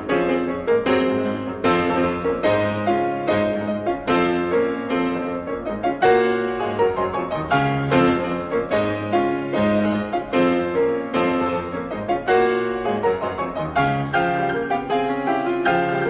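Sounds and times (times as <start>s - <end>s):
slow solo piano chords: 0.0s - 16.0s.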